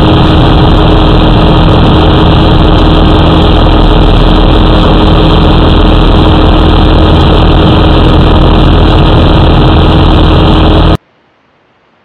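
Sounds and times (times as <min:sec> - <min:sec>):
aircraft engine and propeller: 0:00.0 - 0:11.0.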